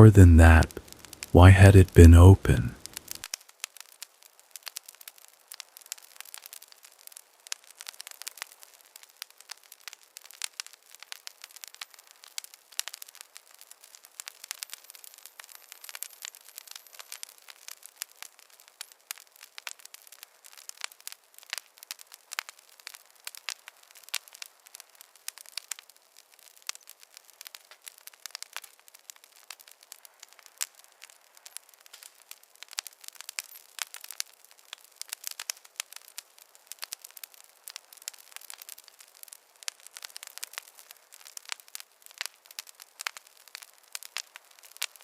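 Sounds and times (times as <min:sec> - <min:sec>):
wood fire crackling: 0:04.0 - 0:45.0.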